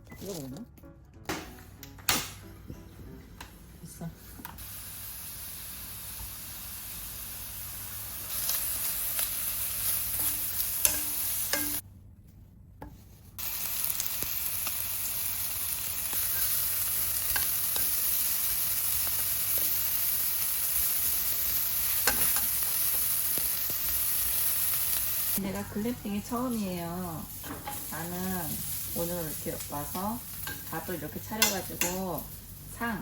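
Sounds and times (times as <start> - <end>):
food sizzling in a frying pan: 4.6 - 11.8, 13.4 - 33.0.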